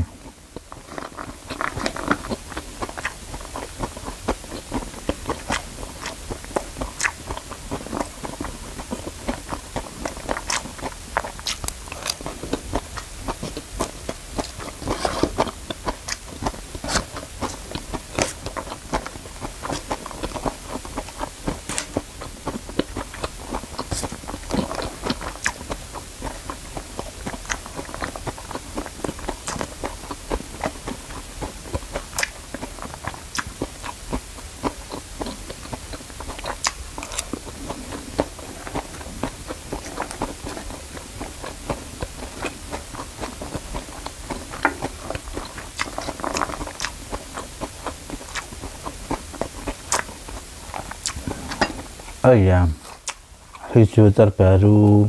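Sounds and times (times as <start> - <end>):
person chewing: 0.0 - 53.7.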